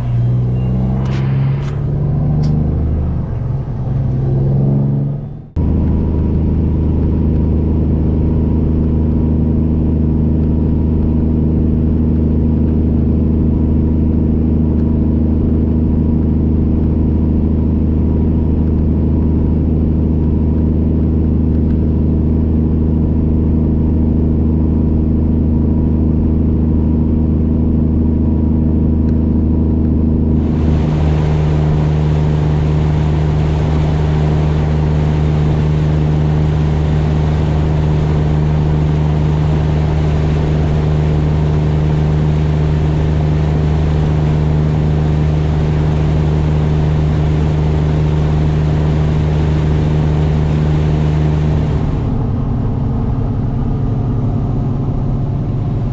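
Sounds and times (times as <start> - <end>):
diesel truck engine drone: 0.0 - 55.9
road and wind noise: 0.0 - 55.9.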